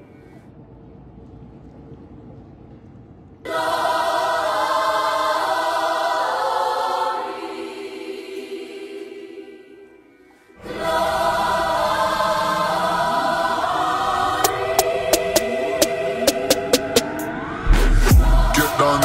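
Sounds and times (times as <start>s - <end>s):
background music: 3.5s - 19.0s.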